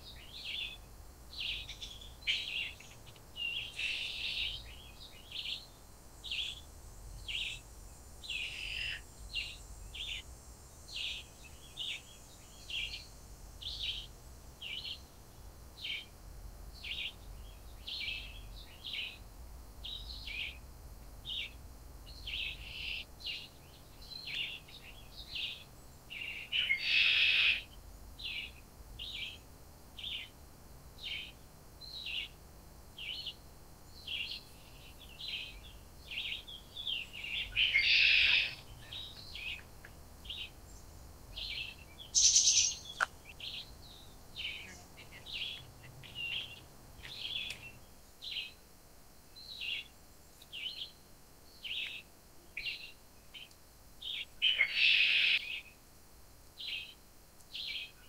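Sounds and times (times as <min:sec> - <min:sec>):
bird chirping: 0:00.0 - 0:10.2, 0:10.8 - 0:15.1, 0:16.8 - 0:19.2, 0:21.2 - 0:30.3, 0:31.0 - 0:32.4, 0:33.0 - 0:48.6, 0:51.6 - 0:55.8, 0:56.6 - 0:58.0.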